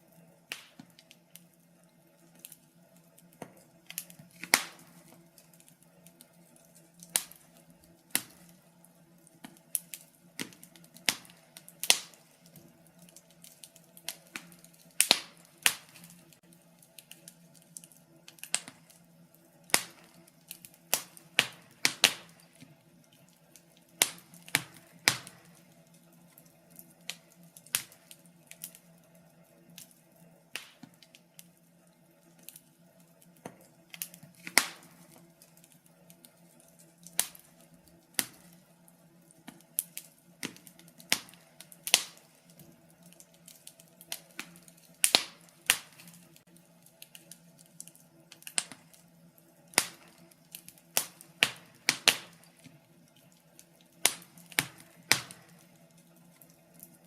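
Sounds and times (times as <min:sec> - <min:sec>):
faint steady low hum: 0:00.0 - 0:57.0
wood fire crackling and popping: 0:00.0 - 0:57.0.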